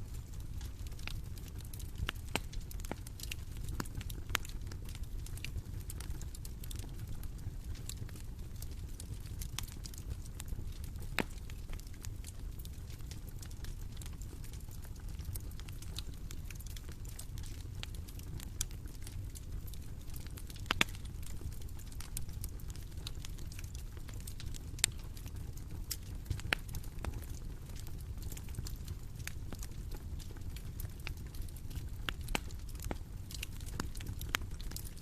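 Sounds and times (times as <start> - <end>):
bonfire crackling: 0.0 - 35.0.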